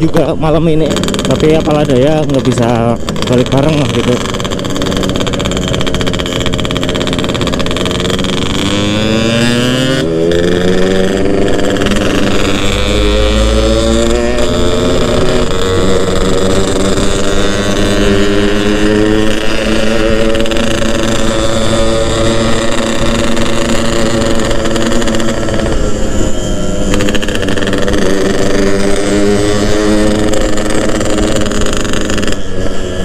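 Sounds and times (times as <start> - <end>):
two-stroke motorcycle engine: 0.0 - 33.0
wind and road noise: 0.0 - 33.0.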